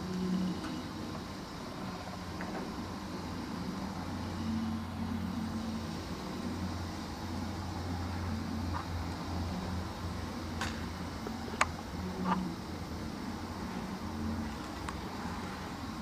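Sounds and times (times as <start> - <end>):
outdoor background noise: 0.0 - 16.0
steady low motor hum: 0.0 - 16.0.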